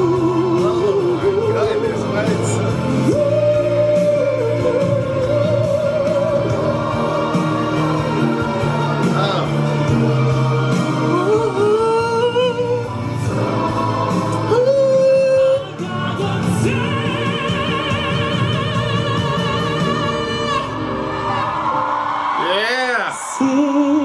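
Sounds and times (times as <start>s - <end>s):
man singing with vibrato: 0.0s - 21.1s, 23.2s - 24.0s
backing music: 0.0s - 24.0s.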